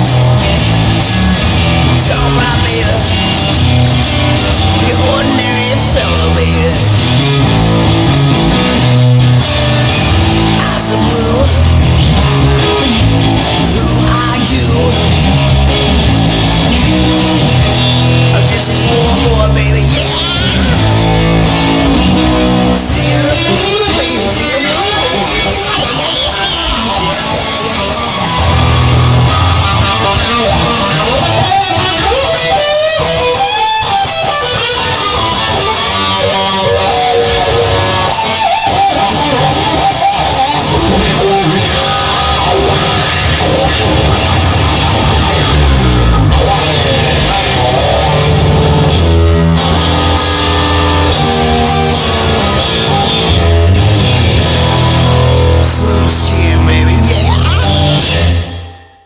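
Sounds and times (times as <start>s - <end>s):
instrumental rock band music: 0.0s - 59.0s.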